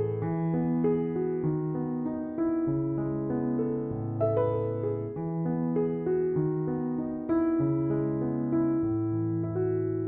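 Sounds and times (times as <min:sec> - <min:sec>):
slow piano-like keyboard melody: 0:00.0 - 0:10.0.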